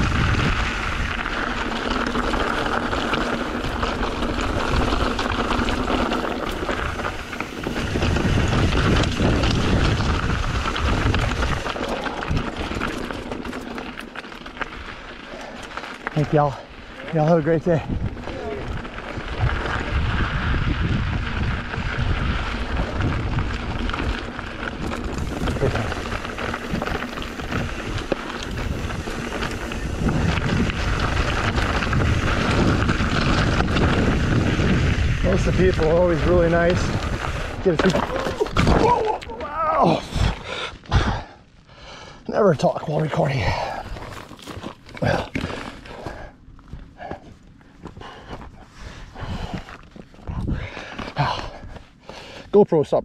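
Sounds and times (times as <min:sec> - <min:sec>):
wind buffeting microphone: 0:00.0 - 0:13.8, 0:16.2 - 0:41.4, 0:43.3 - 0:52.3
tyres crunching over stones: 0:00.0 - 0:41.0, 0:42.5 - 0:52.2
bike rattling: 0:00.0 - 0:52.5.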